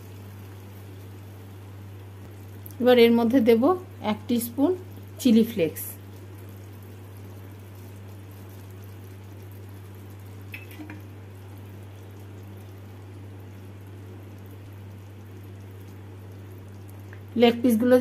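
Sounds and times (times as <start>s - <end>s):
gravy bubbling in a pan: 0.0s - 18.0s.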